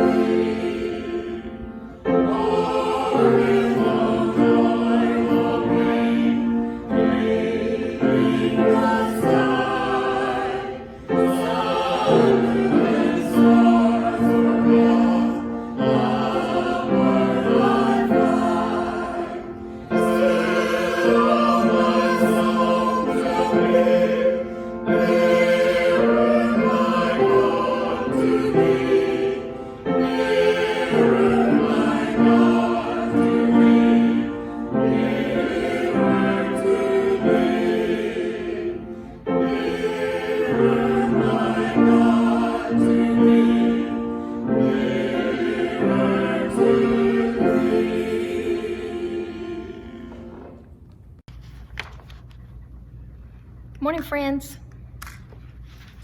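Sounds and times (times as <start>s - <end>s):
choir singing: 0.0s - 50.8s.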